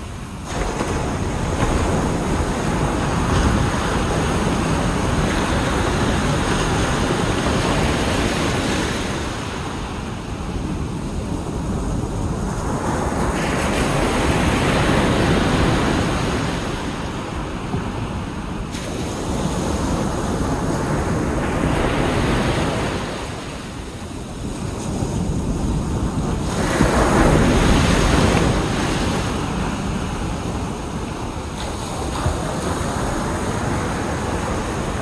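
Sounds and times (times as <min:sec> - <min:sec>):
ocean waves breaking on beach: 0:00.0 - 0:35.0
wind buffeting microphone: 0:00.0 - 0:35.0.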